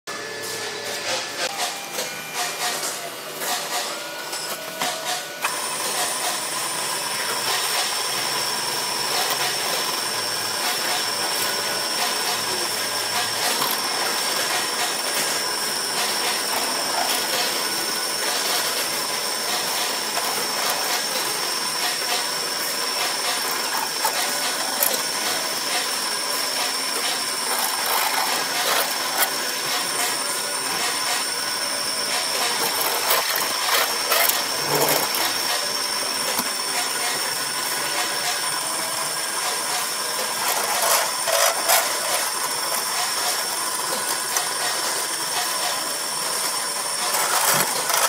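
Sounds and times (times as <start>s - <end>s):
drill bit whining through metal: 0.1s - 48.0s
drill press running: 0.1s - 48.0s.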